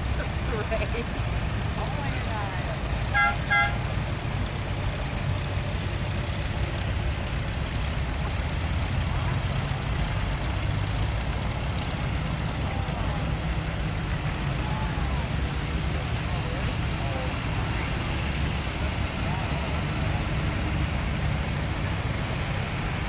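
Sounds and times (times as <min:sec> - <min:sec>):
tractor engines rumbling: 0:00.0 - 0:23.0.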